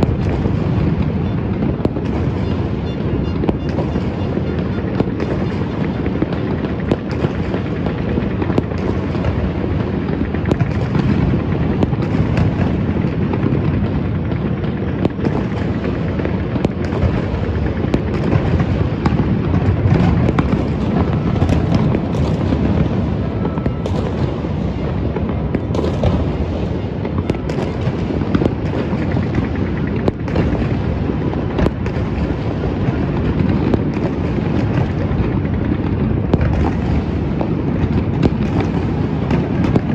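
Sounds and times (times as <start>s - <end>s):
firecrackers crackling: 0.0s - 39.9s
fireworks bangs and booms: 0.0s - 39.9s.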